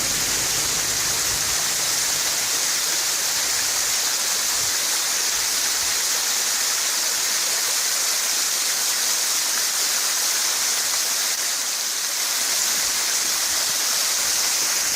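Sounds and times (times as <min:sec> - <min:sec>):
waterfall splashing: 0:00.0 - 0:14.9.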